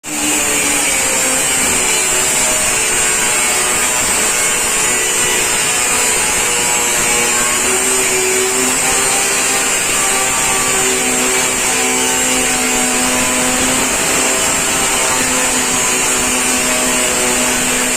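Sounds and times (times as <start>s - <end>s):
power tool cutting steel: 0.0s - 17.9s.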